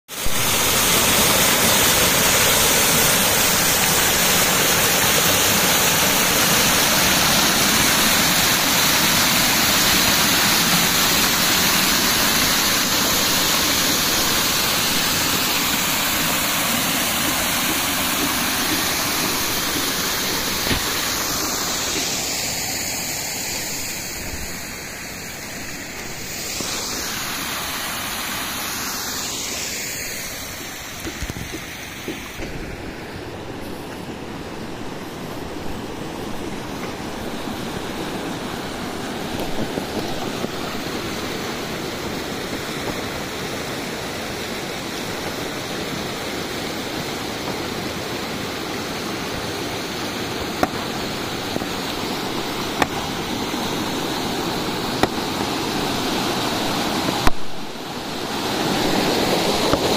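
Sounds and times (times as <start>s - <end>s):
waterfall splashing over rocks: 0.1s - 59.9s.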